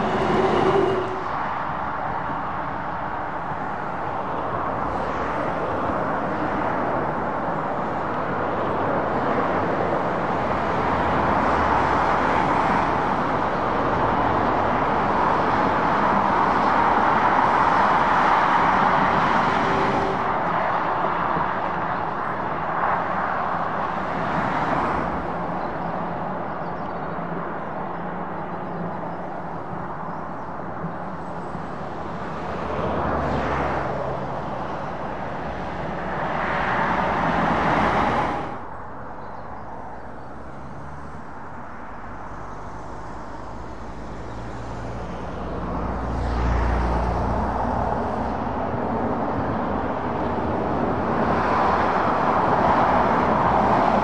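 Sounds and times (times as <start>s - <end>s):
passing lorries and cars: 0.0s - 54.0s.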